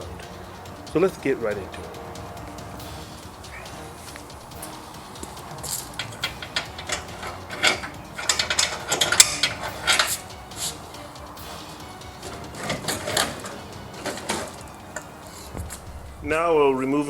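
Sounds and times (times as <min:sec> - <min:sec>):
metal hand tools clinking: 0:00.0 - 0:16.2.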